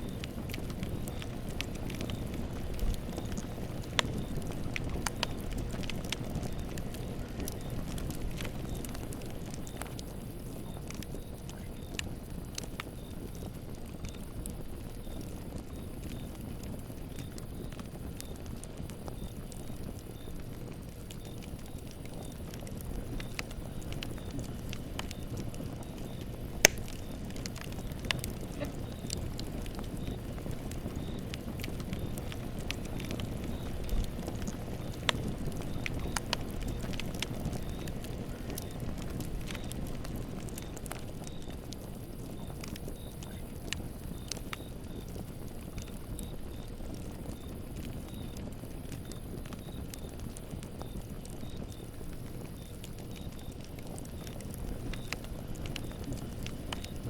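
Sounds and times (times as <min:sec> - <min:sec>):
burning wood crackling and popping: 0:00.0 - 0:57.0
low rumble of flames: 0:00.0 - 0:57.0.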